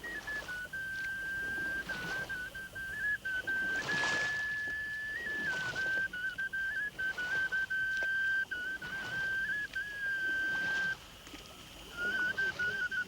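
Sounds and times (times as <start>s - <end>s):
high whistled tone: 0.0s - 11.0s, 11.9s - 13.0s.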